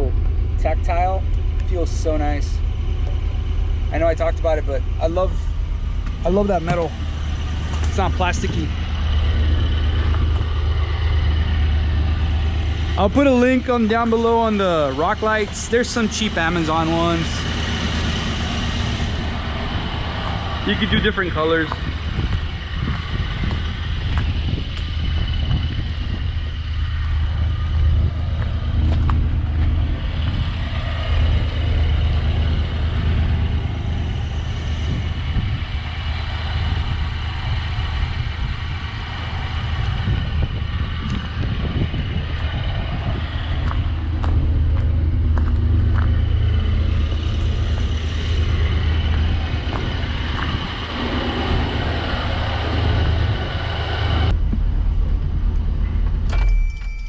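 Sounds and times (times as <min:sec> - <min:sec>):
truck engine idling: 0:00.0 - 0:56.4.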